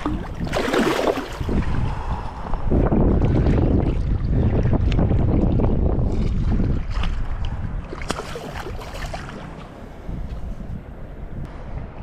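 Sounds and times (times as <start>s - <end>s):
water lapping and splashing: 0.0s - 10.6s
wind buffeting microphone: 0.0s - 12.0s.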